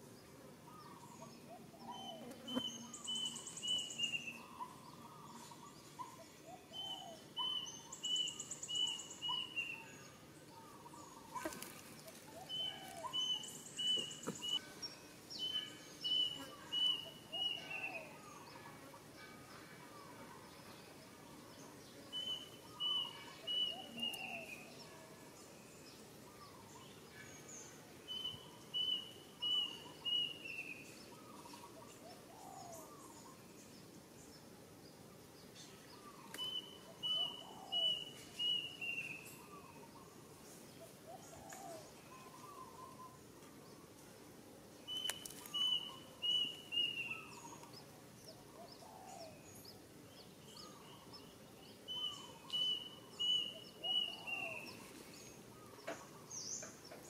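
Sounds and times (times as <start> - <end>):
birds chirping faintly: 0.0 - 57.0.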